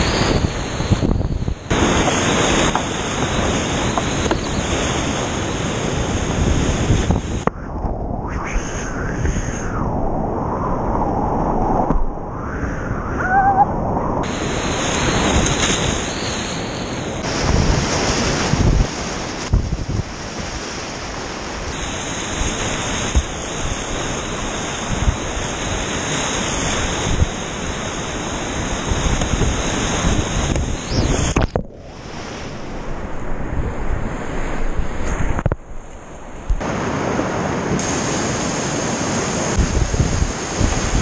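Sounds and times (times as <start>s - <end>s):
wind buffeting microphone: 0.0s - 16.3s, 17.1s - 20.8s, 21.6s - 36.7s, 39.5s - 41.0s.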